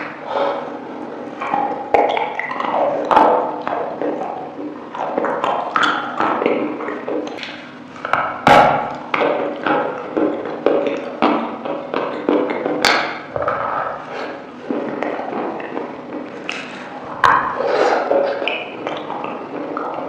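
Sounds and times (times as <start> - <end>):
wet sticky chewing: 1.3 - 20.0
food crunching: 1.4 - 20.0.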